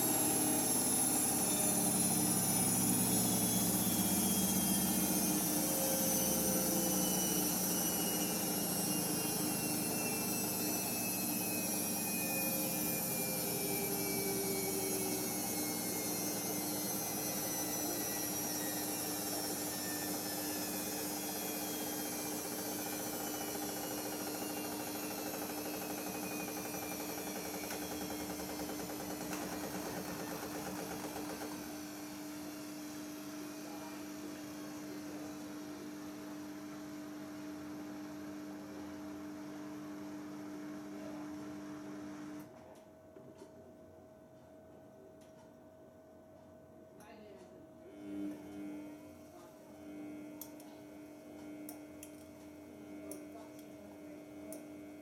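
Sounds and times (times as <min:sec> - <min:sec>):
washing machine spin whine: 0:00.0 - 0:55.0.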